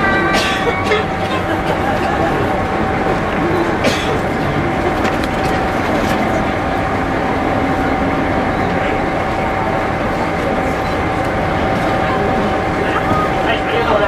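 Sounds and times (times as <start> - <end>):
diesel engine idling: 0.3 - 14.0.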